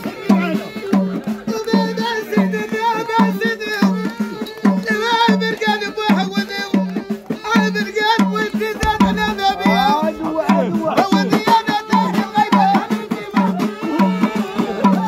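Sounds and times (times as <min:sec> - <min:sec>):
hand drum beat: 0:00.0 - 0:15.0
men singing together: 0:00.0 - 0:15.0.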